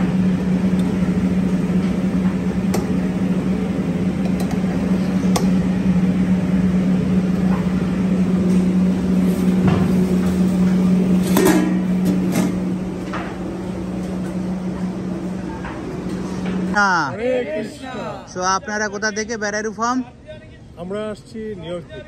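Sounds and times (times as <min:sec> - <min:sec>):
kitchen equipment humming: 0:00.0 - 0:20.0.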